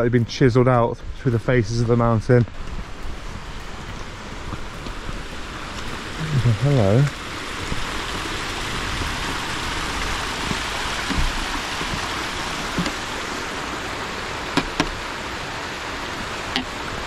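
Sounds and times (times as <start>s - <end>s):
water rushing over rock: 1.9s - 17.0s.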